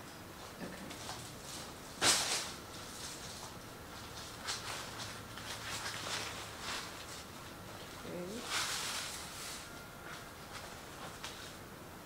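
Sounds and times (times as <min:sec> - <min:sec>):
fabric bag rustling: 0:01.5 - 0:11.6.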